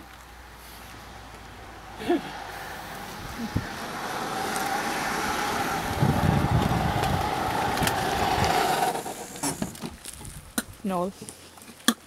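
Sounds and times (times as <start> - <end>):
car passing on road: 0.0 - 9.8.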